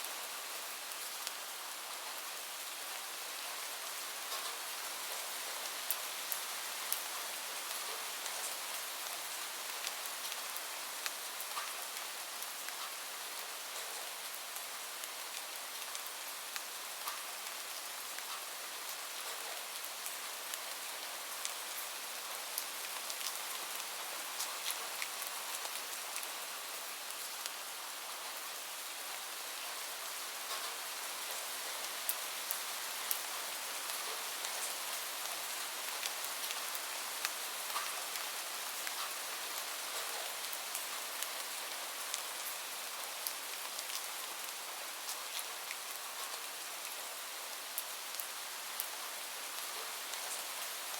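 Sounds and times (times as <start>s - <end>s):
gentle rain falling: 0.0s - 50.9s.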